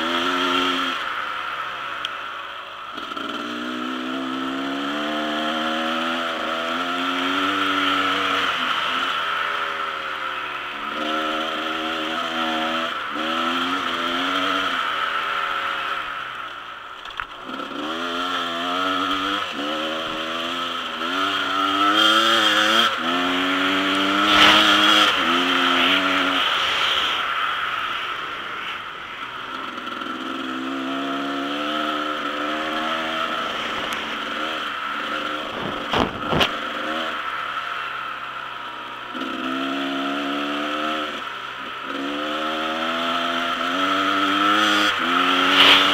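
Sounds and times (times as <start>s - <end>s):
dirt bike engine revving: 0.0s - 2.0s, 2.9s - 16.3s, 17.4s - 37.9s, 38.8s - 45.9s.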